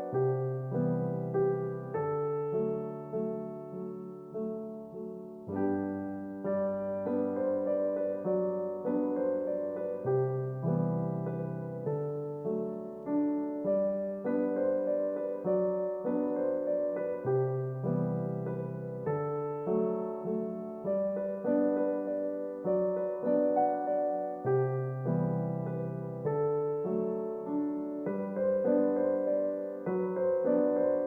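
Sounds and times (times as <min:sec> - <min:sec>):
electric piano melody: 0:00.0 - 0:31.0.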